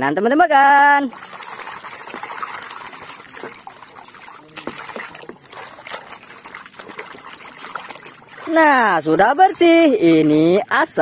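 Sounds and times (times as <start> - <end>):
water sloshing in a plastic basin: 0.4 - 11.0.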